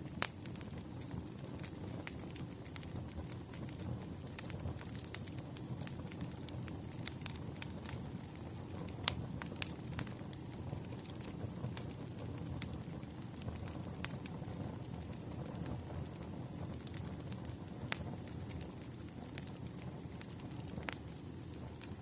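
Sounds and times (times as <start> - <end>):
sharp pops of burning logs: 0.0 - 22.0
wood fire crackling: 0.0 - 22.0.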